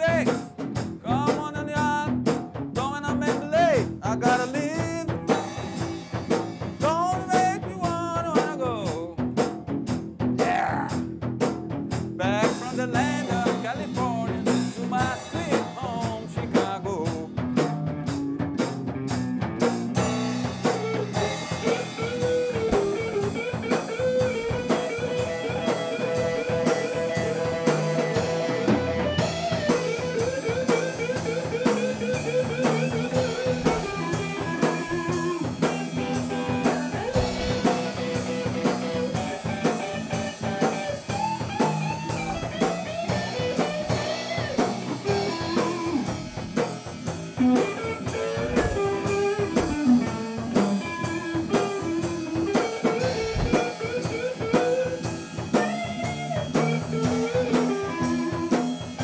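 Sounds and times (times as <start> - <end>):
drum kit steady beat: 0.0 - 59.0
electric guitar lead line: 0.0 - 59.0.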